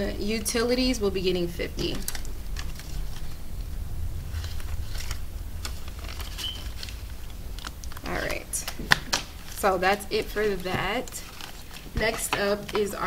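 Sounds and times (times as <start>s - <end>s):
banknotes rustling: 0.0s - 13.0s
steady low hum: 0.0s - 13.0s.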